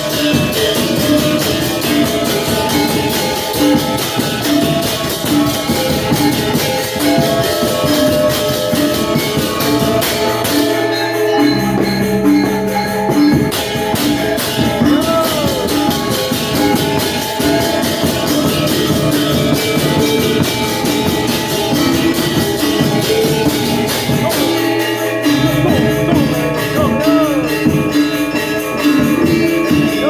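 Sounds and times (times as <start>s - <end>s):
cymbals: 0.0s - 30.0s
drums: 0.0s - 30.0s
metallophones in fast patterns: 0.0s - 30.0s.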